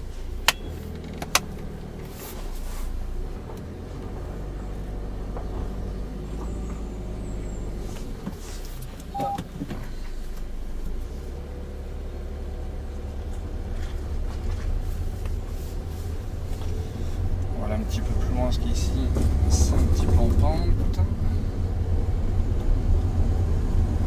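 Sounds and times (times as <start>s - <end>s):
car engine hum: 0.0s - 24.0s
road rumble: 0.0s - 24.0s.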